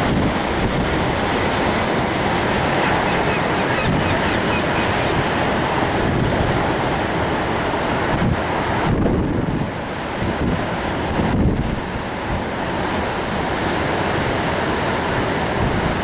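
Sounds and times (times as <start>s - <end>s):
surf breaking on rocky shore: 0.0s - 16.0s
wind buffeting microphone: 0.0s - 16.0s.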